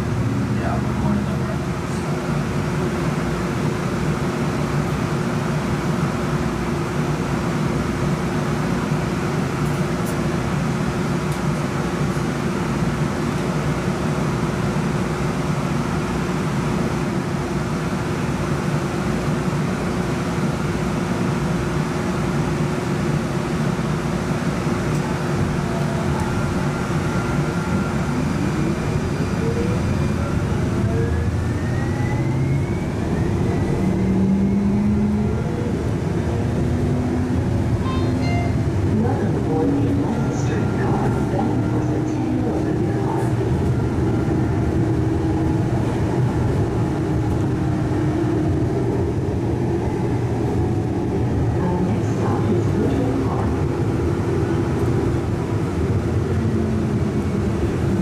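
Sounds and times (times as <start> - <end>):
streetcar hum and rumble: 0.0 - 58.0.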